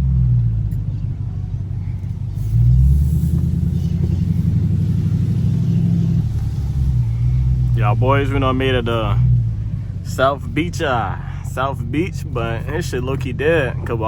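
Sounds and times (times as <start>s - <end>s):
car exhaust rumbling: 0.0s - 14.0s.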